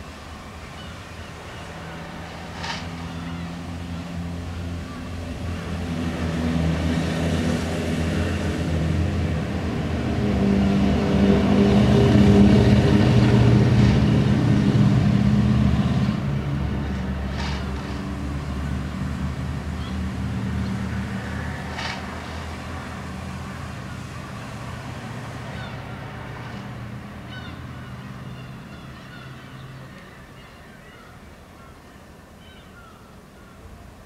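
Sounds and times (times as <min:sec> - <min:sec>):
wheels rumbling on rails: 0:00.0 - 0:30.5.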